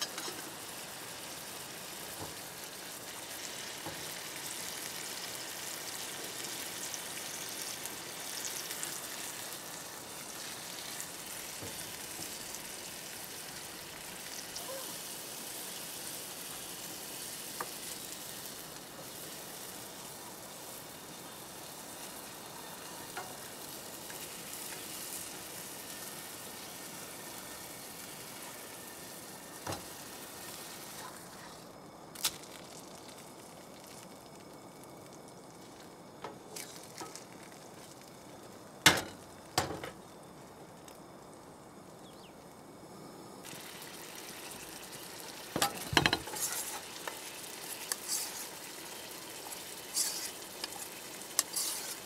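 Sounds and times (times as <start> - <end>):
patties sizzling in frying pan: 0.0 - 42.4, 43.4 - 52.0.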